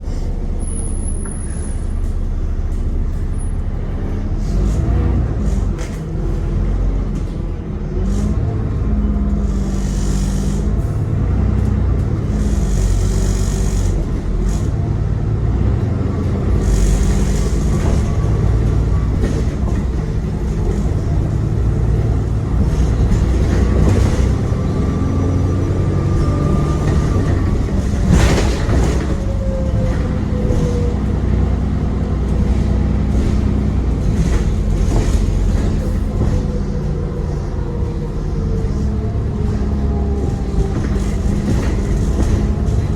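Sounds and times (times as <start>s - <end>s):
bus engine rumbling: 0.0s - 42.9s.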